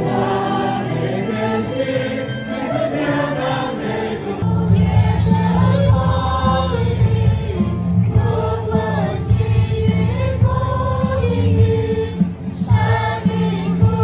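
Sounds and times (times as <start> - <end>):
choir singing worship song: 0.0 - 14.0
instrumental accompaniment: 0.0 - 14.0.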